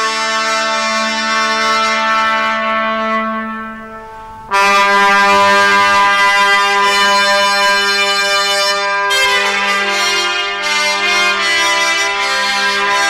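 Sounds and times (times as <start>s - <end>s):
held brass chords: 0.0s - 13.0s.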